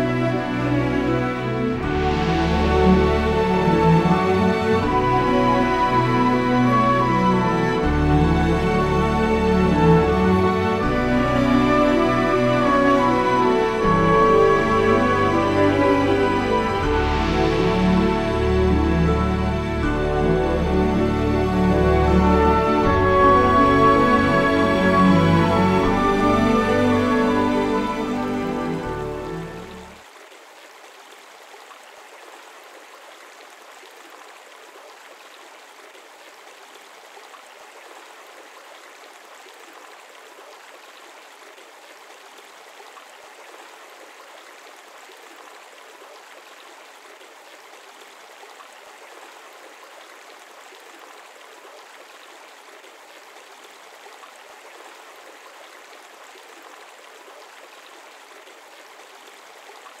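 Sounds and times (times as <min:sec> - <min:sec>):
shallow stream flowing: 0:00.0 - 1:00.0.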